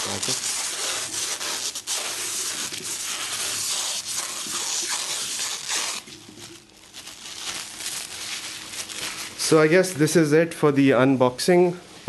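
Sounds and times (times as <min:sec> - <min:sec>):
plastic wrapping rustling and crinkling: 0:00.0 - 0:10.3.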